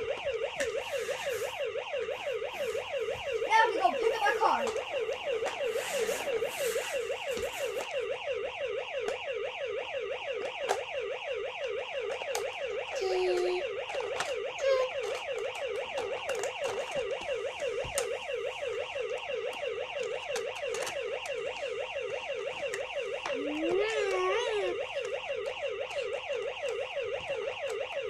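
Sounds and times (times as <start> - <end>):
toy electronic siren: 0.0 - 28.0.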